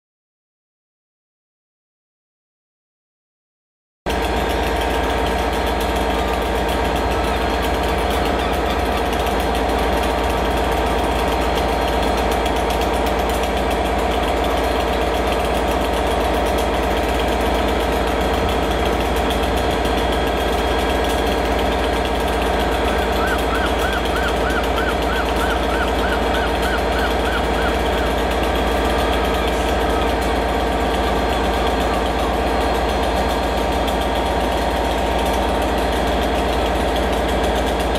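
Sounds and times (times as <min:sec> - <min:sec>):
diesel locomotive engine droning: 0:04.1 - 0:37.9.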